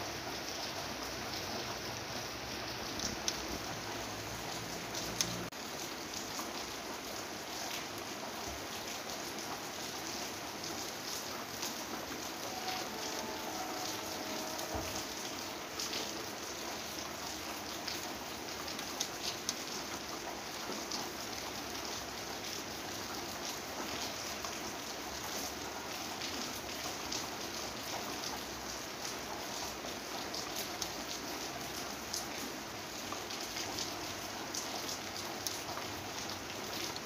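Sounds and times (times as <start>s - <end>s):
steady rain falling: 0.0s - 37.0s
raindrops ticking: 0.4s - 37.0s.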